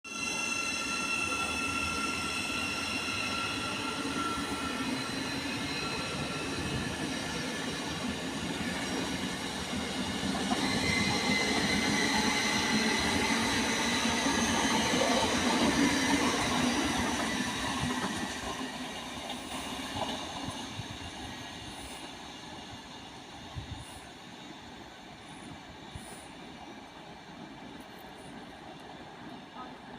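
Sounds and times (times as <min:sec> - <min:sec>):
electric train whine passing: 0:00.1 - 0:29.9.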